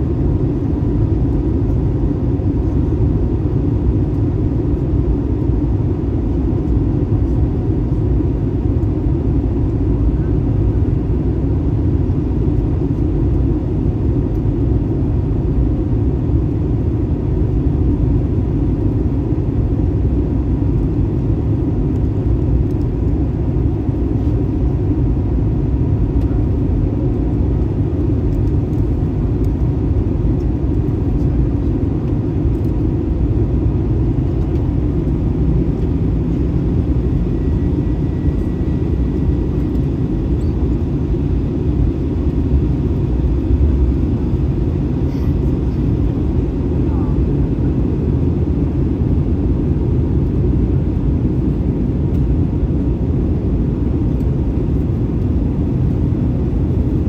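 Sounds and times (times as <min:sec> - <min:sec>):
airplane cabin engine rumble: 0:00.0 - 0:57.0
faint steady hum: 0:00.0 - 0:57.0.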